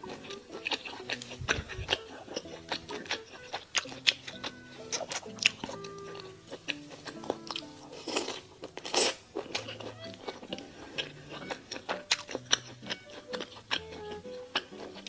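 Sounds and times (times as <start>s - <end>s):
crunchy bites: 0.0s - 15.0s
wet chewing: 0.0s - 15.0s.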